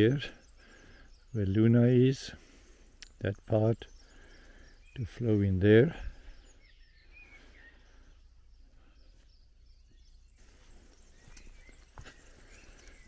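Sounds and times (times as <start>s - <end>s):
soft bird chirps: 0.0s - 13.0s.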